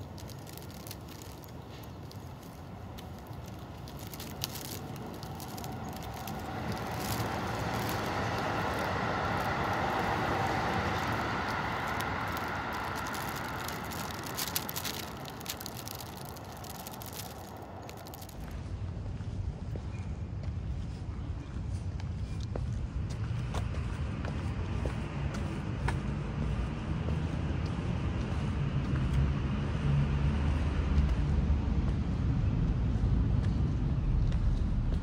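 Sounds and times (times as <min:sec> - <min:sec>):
vehicle passing: 0:00.0 - 0:18.9, 0:23.2 - 0:35.0.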